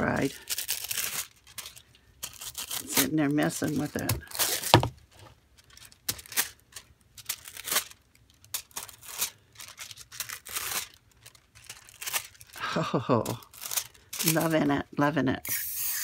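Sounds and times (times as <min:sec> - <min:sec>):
foil sheet crinkling: 0:00.0 - 0:15.2.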